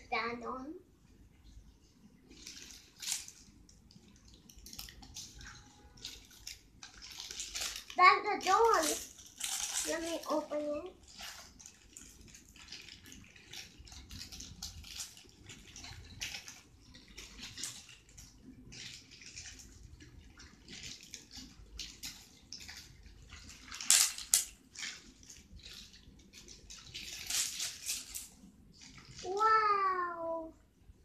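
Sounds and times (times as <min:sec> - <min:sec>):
plastic wrapping crinkling: 0:02.1 - 0:30.2.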